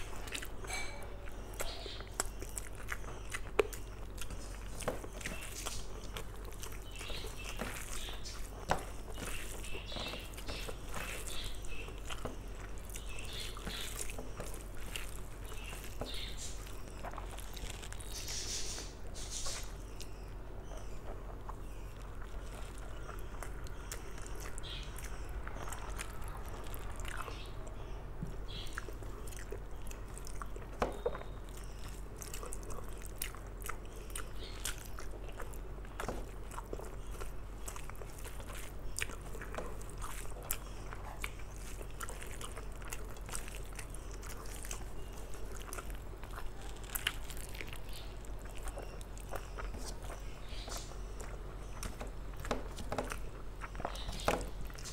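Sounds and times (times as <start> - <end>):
chewing and wet mouth smacks: 0.0 - 54.9.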